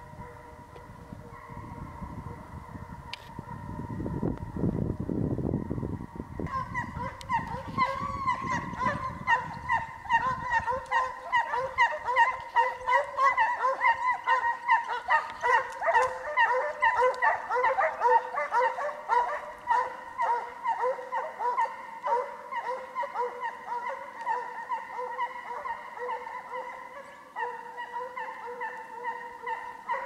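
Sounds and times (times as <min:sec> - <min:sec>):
hounds yelping and baying: 0:00.0 - 0:04.6, 0:05.5 - 0:30.0.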